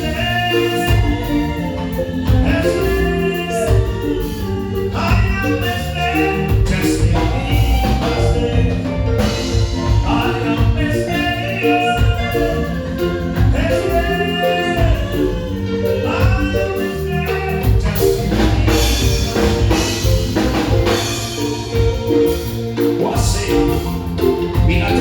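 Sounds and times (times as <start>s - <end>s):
live band playing: 0.0s - 25.0s
person singing: 0.0s - 25.0s.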